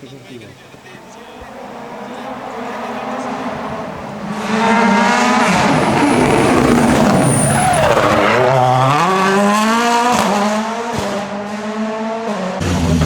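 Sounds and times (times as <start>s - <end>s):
rally car engine at full throttle: 0.9s - 13.0s.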